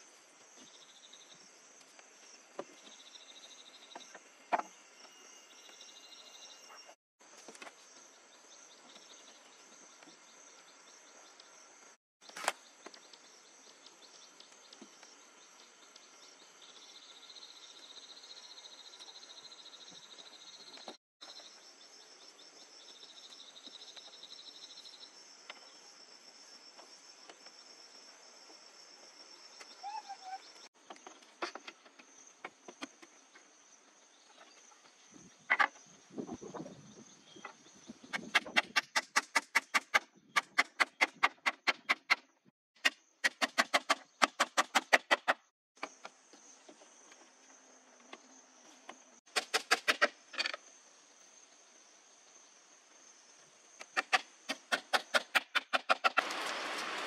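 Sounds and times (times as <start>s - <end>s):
insects chirring: 0.0s - 42.0s, 45.4s - 57.0s.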